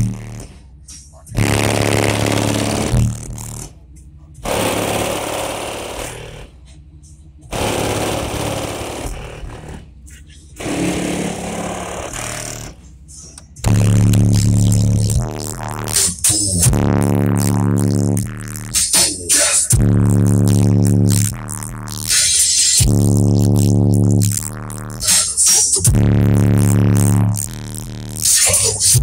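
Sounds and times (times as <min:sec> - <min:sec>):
rap song on car stereo: 0:00.0 - 0:29.0.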